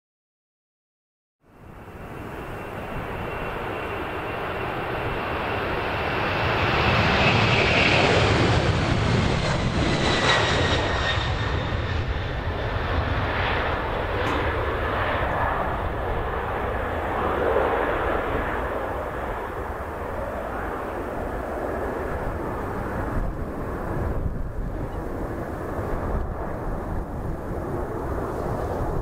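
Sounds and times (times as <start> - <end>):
jet engines at take-off: 1.4 - 29.0.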